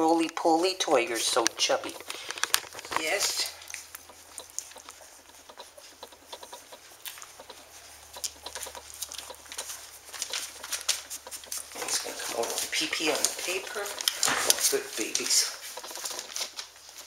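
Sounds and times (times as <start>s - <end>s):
puppy paws scratching paper: 0.0s - 17.0s.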